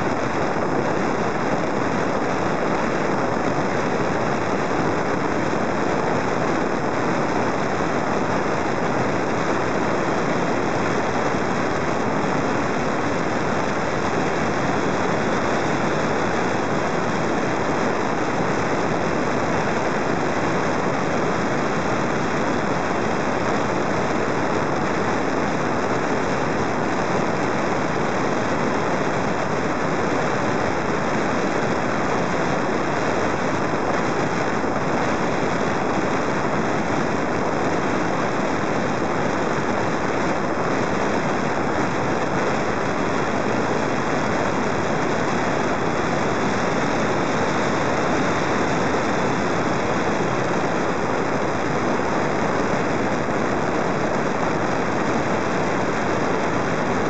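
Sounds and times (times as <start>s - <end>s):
rushing airflow over microphone: 0.0s - 57.0s.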